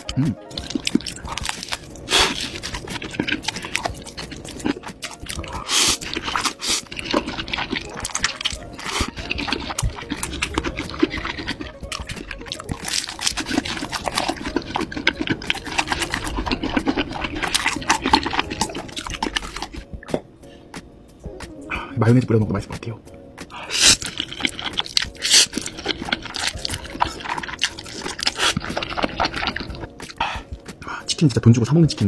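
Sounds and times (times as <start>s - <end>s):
person chewing crunchy food: 0.0s - 20.2s, 23.4s - 30.7s.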